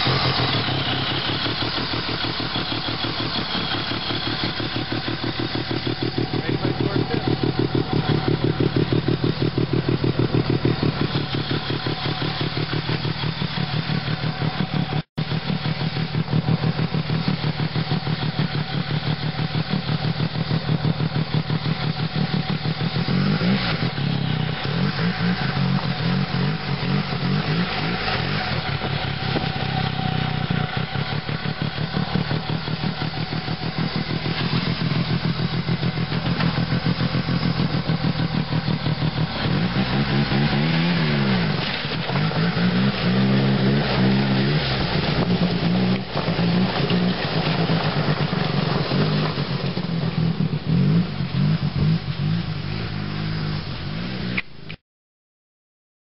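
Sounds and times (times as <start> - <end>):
snowmobile engine revving: 0.0 - 54.5.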